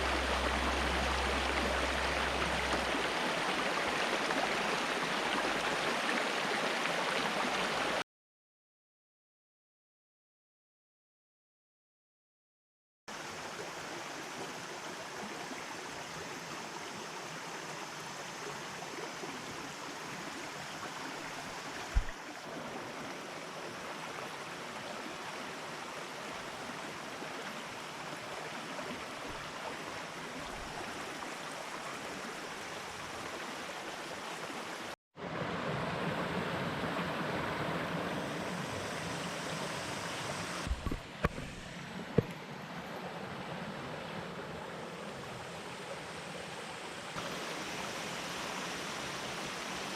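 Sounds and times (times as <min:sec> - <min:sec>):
mountain stream rushing: 0:00.0 - 0:08.0, 0:13.1 - 0:49.9.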